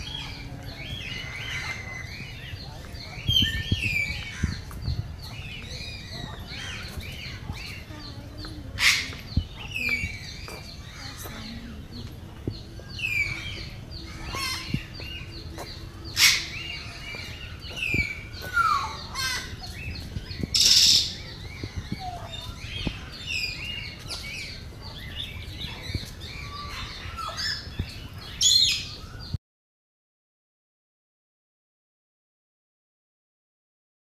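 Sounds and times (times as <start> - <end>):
birds chirping and whistling: 0.0 - 29.4.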